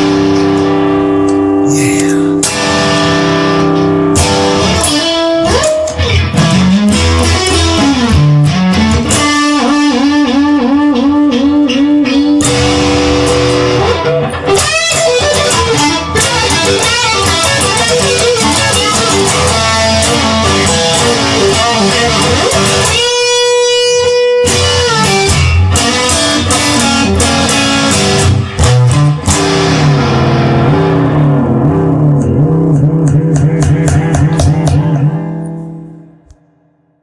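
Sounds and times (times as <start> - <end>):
bass guitar: 0.0 - 36.5
electric guitar: 0.0 - 37.0.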